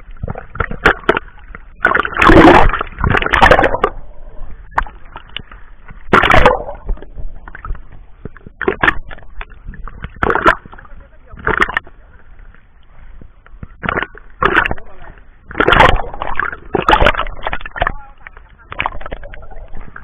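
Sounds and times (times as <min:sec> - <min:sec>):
sea water splashing: 0:00.0 - 0:20.0.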